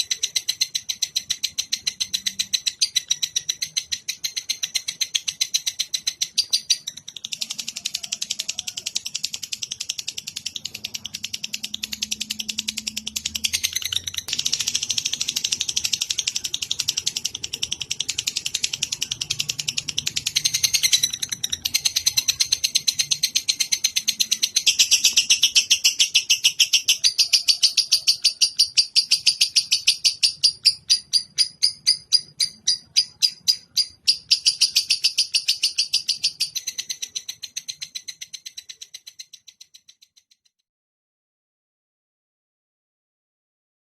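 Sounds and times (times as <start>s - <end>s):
lovebird chattering trill: 0.0s - 40.2s.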